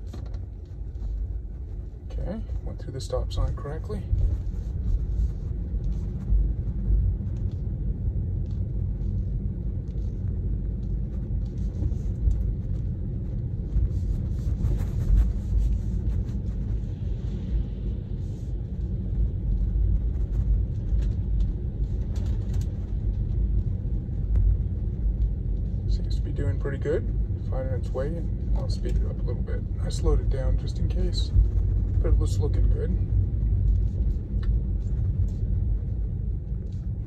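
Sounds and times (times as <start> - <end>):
tyre and road noise in car: 0.0 - 37.0.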